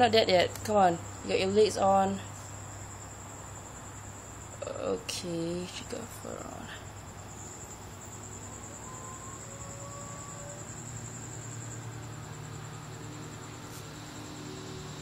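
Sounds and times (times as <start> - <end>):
crickets trilling: 0.0 - 15.0
low steady hum: 0.0 - 15.0.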